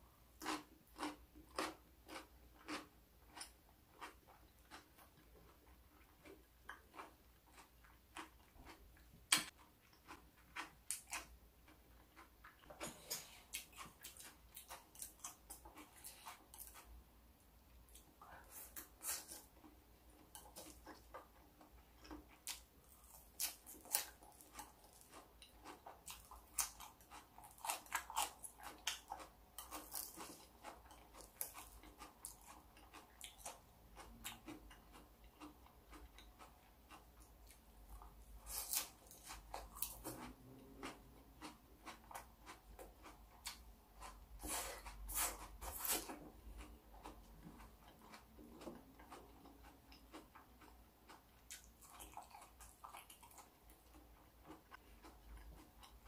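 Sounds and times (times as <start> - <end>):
person chewing raw vegetables: 0.3 - 56.0.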